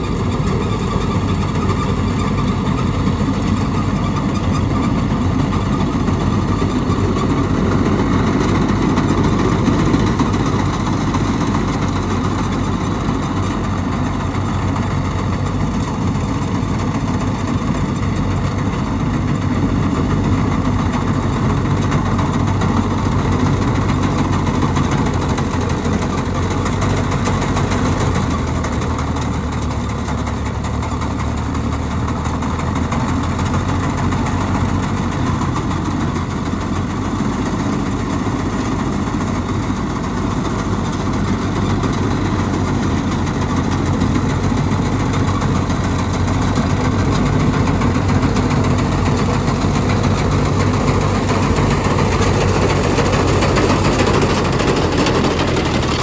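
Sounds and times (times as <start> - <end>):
harvester mechanical clatter: 0.0 - 56.0
tractor diesel engine running: 0.0 - 56.0.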